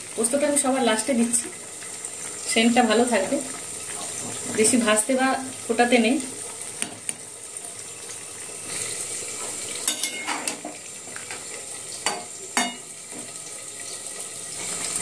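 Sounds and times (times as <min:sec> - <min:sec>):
vegetables hissing in a pan: 0:00.0 - 0:15.0.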